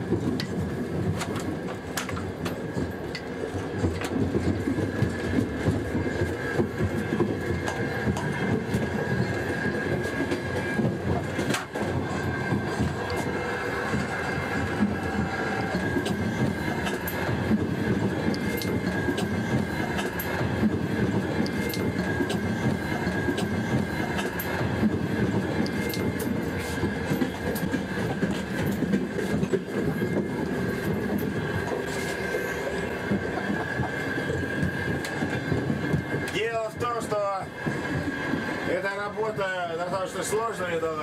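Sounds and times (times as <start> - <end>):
wheels rumbling on rails: 0.0 - 41.0.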